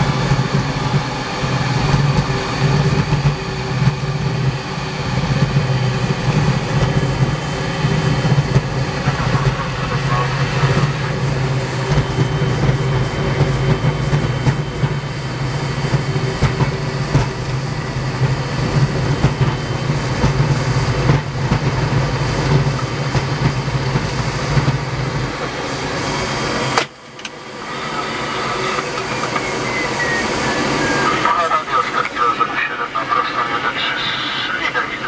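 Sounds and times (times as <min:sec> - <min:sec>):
aircraft engine droning: 0:00.0 - 0:35.0.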